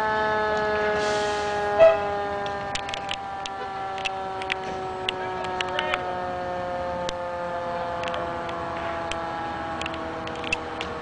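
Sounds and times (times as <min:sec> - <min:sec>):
mechanical siren winding down: 0:00.0 - 0:11.0.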